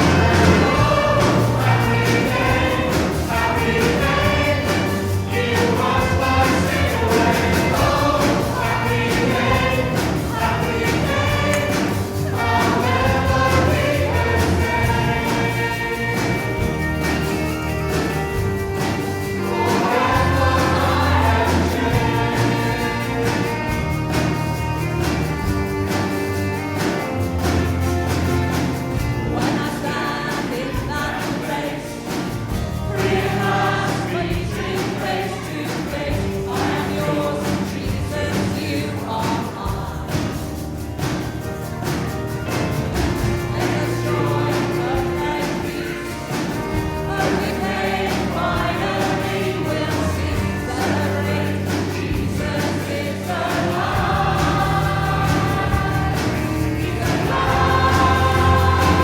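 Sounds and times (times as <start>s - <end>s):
group singing worship song: 0.0s - 59.0s
instrumental backing: 0.0s - 59.0s.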